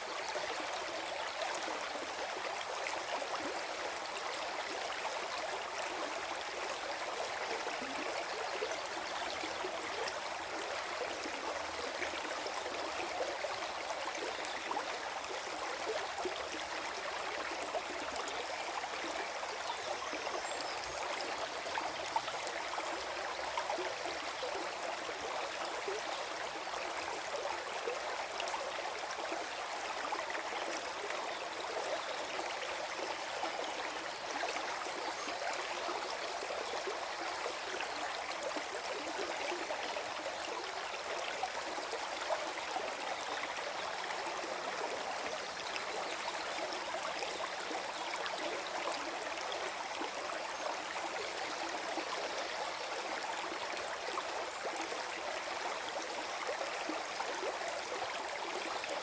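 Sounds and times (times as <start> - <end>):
stream gurgling over stones: 0.0 - 59.0.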